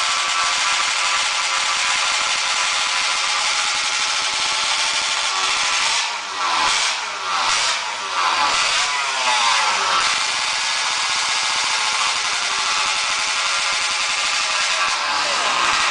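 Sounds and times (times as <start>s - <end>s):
racing motorcycle engines revving: 0.0s - 15.9s.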